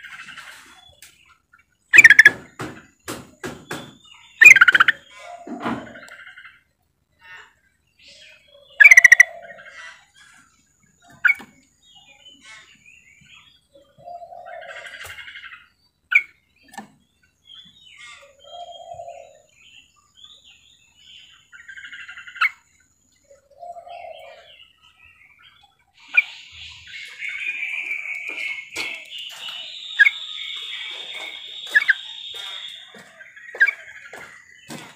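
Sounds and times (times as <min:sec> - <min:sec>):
bird calling with sharp notes: 0:00.0 - 0:06.6, 0:08.0 - 0:34.9.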